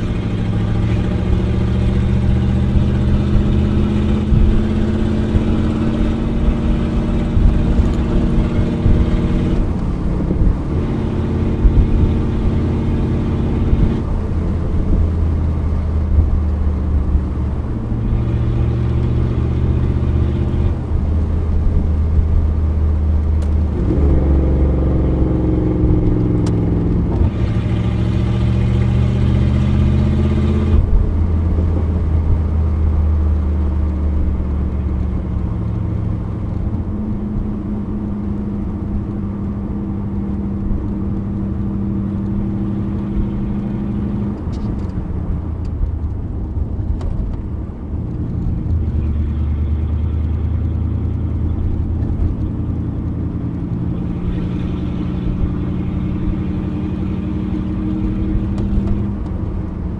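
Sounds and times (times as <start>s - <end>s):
car engine heard from inside: 0.0s - 59.9s.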